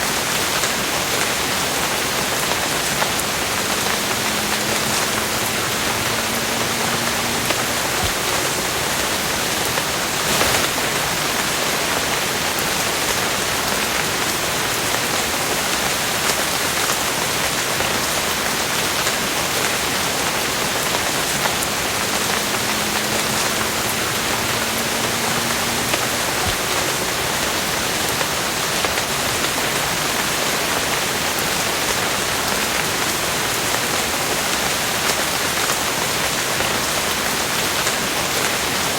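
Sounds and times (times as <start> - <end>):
louder rain patter: 0.0 - 38.9
raindrops tapping: 0.0 - 38.9
steady rain hiss: 0.0 - 38.9.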